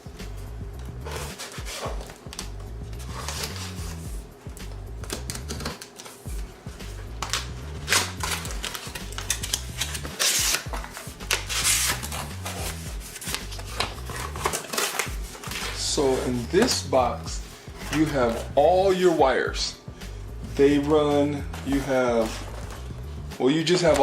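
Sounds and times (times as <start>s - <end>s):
background music with bass beat: 0.0s - 24.0s.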